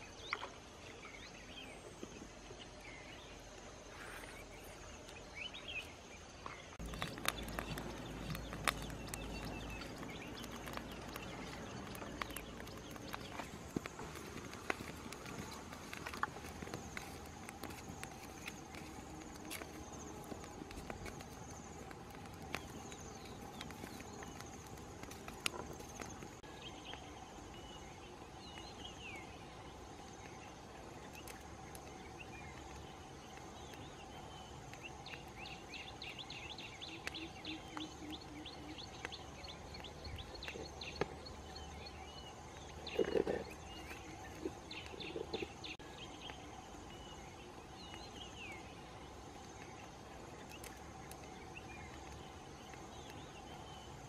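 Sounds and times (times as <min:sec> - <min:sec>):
birds chirping: 0:00.0 - 0:54.0
insect drone: 0:00.0 - 0:54.0
wood fire crackling: 0:06.7 - 0:54.0.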